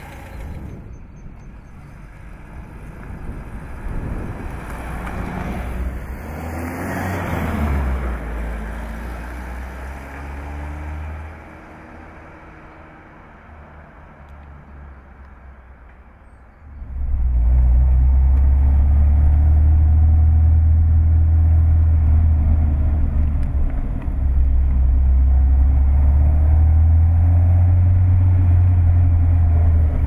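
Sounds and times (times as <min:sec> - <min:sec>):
car engine and road noise drone: 0:00.0 - 0:30.0.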